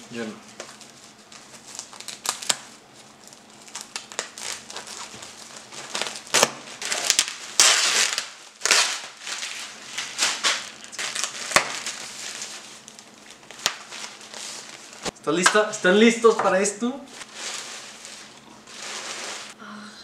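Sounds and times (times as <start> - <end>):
plastic wrapping crinkling: 0.1 - 15.1, 17.1 - 19.6.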